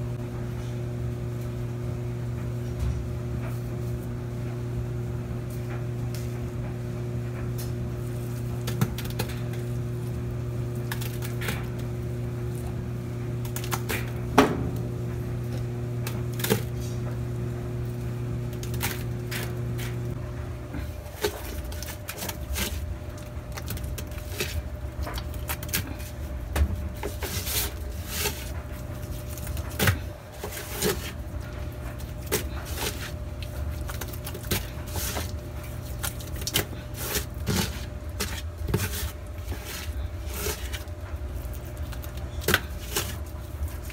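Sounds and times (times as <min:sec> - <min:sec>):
washing machine humming: 0:00.0 - 0:43.9.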